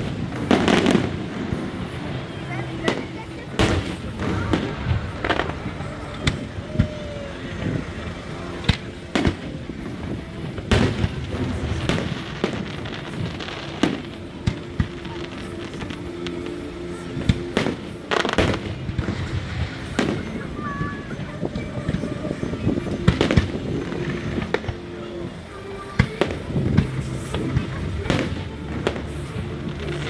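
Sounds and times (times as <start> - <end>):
fireworks bangs echoing: 0.0 - 30.0
murmur of crowd: 0.0 - 30.0.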